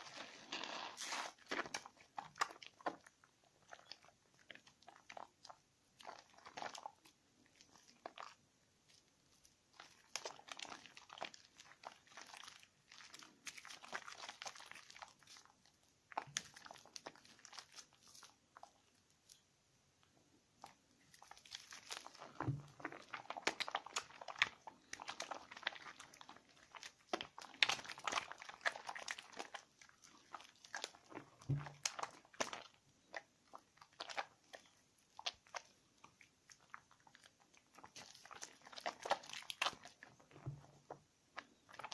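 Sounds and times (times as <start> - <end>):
wet soap squishing and crackling: 0.0 - 41.9.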